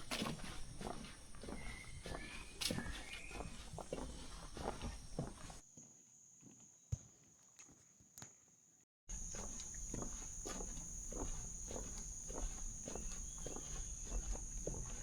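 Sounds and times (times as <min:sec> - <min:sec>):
footsteps on forest trail: 0:00.0 - 0:07.8, 0:09.1 - 0:15.0.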